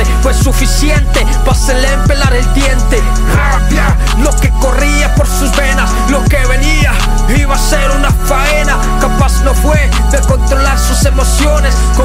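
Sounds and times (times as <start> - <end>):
deep sliding bass notes: 0.0 - 12.0
rapping over a hip hop beat: 0.0 - 12.0.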